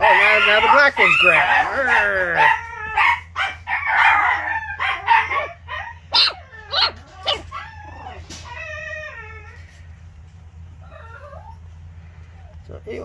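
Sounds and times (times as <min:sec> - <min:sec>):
puppies squealing and yelping: 0:00.0 - 0:10.0, 0:10.8 - 0:12.6.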